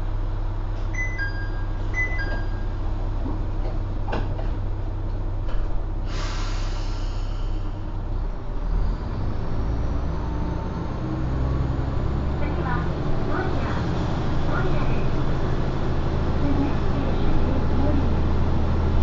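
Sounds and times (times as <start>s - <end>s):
diesel railcar engine: 0.0s - 19.0s.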